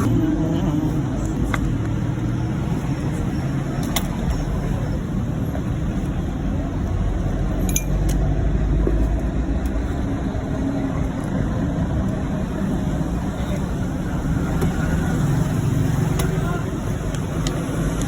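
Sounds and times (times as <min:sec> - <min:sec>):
passing vehicles rumble: 0:00.0 - 0:18.0.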